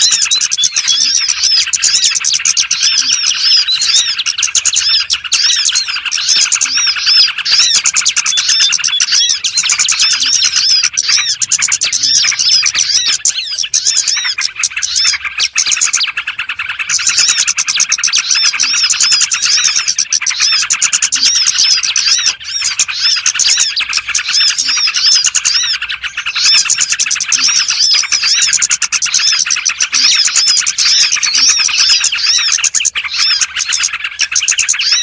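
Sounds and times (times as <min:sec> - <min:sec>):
small songbirds chirping: 0:00.0 - 0:35.0.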